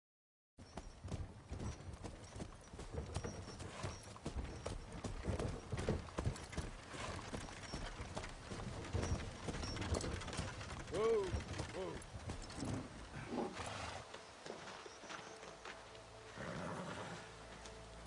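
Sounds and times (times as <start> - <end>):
wooden cart rumbling: 0.6 - 15.8
horse hooves clip-clopping: 0.6 - 18.0.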